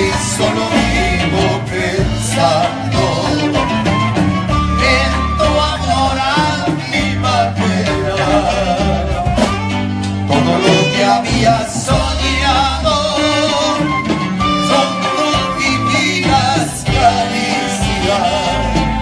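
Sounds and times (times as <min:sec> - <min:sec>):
acoustic guitars: 0:00.0 - 0:19.0
deep bass line: 0:00.0 - 0:19.0
men singing into microphones: 0:00.0 - 0:19.0.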